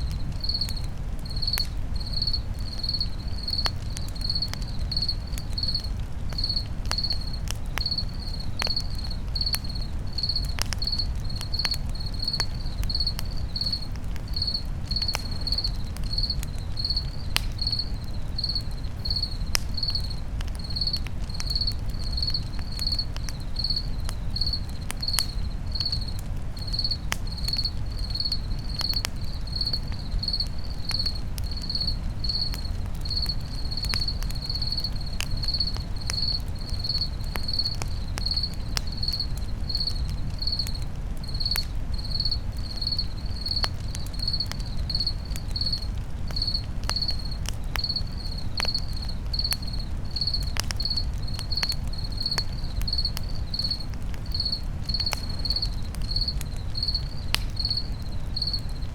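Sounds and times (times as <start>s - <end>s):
crackling campfire with pops: 0.0s - 58.9s
crickets chirping: 0.0s - 58.9s.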